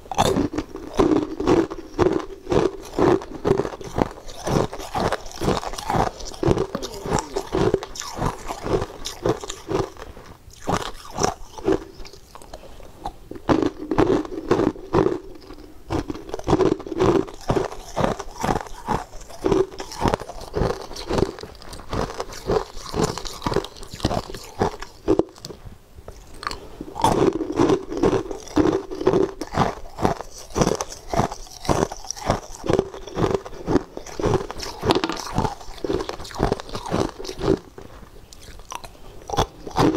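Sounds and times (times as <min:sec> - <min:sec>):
ice cubes crunching in teeth: 0:00.0 - 0:39.9.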